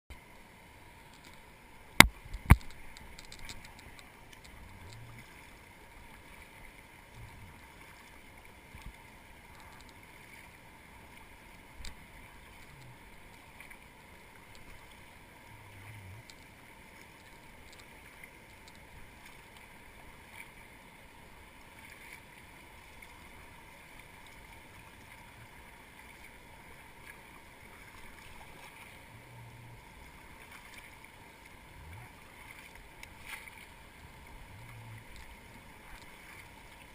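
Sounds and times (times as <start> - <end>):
river water rushing: 0.2 - 36.9.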